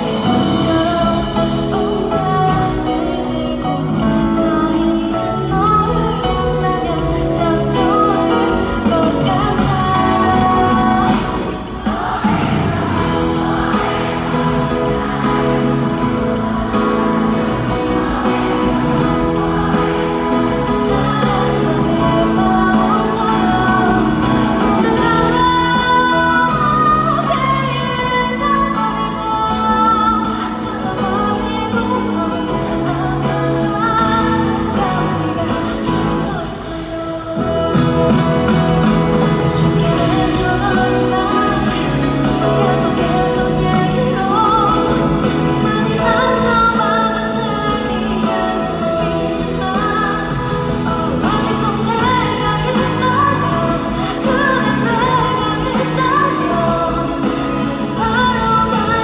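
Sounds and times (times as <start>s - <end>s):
live band playing pop ballad: 0.0s - 59.0s
woman singing: 0.0s - 59.0s.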